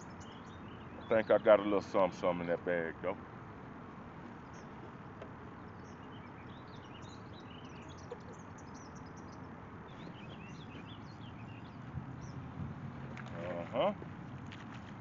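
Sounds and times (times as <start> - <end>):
small birds chirping: 0.0 - 3.5, 4.2 - 14.0
outdoor background hiss: 0.0 - 15.0.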